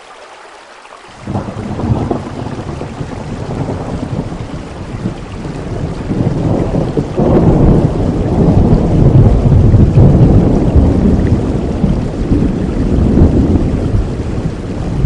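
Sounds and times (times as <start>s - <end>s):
rain falling: 0.0s - 15.0s
thunder rumbling: 1.2s - 15.0s.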